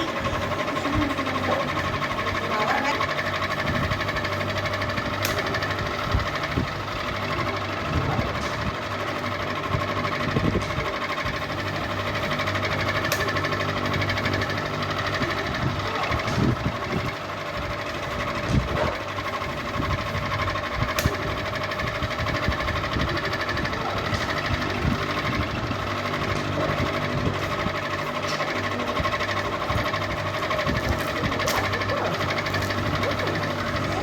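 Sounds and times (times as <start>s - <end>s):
ceiling fan whirring: 0.0s - 34.0s
fine rapid rattle: 0.0s - 34.0s.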